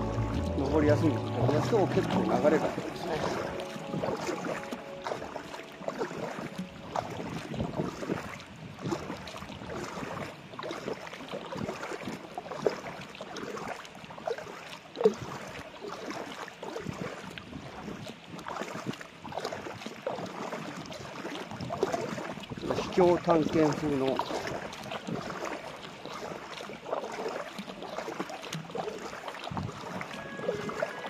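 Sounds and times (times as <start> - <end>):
paddle splashing in water: 0.0 - 31.0.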